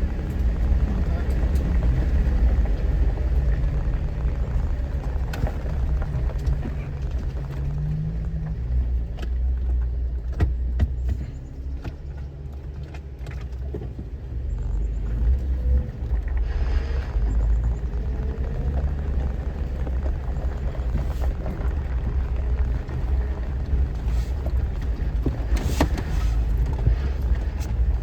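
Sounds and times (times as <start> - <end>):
car engine running low: 0.0 - 28.0.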